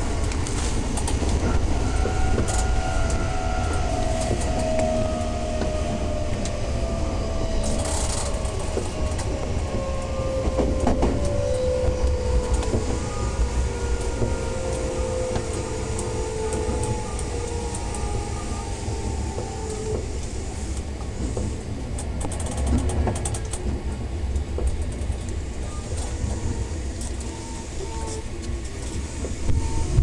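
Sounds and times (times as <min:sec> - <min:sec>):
electric train motor whine: 0:00.0 - 0:30.0
low train running rumble: 0:00.0 - 0:30.0
wheels clicking on track: 0:00.0 - 0:30.0.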